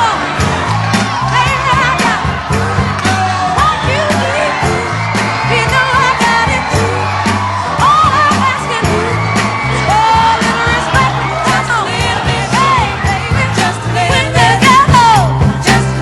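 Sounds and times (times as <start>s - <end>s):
pop song with sung vocal: 0.0s - 16.0s.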